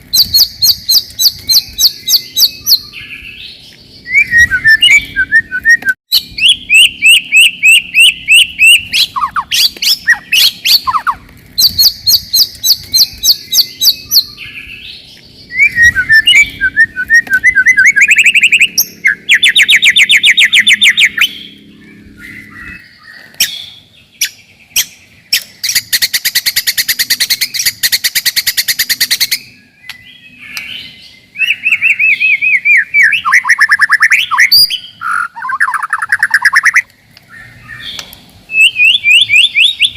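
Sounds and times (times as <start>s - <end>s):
bird singing whistled notes: 0.1s - 39.9s.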